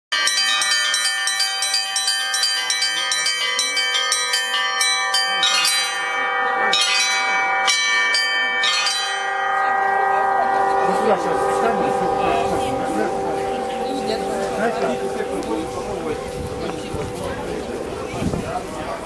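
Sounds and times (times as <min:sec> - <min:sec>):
bigger bells ringing: 0:00.1 - 0:19.0
small high bells struck: 0:00.1 - 0:19.0.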